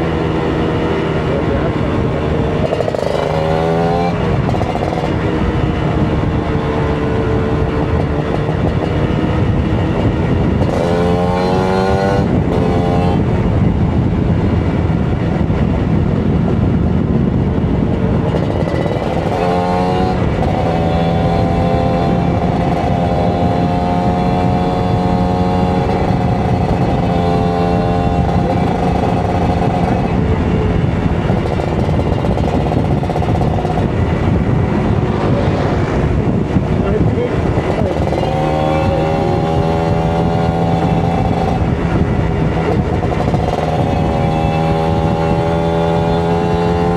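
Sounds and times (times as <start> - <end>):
two-stroke motorcycle engine revving: 0.0 - 46.9.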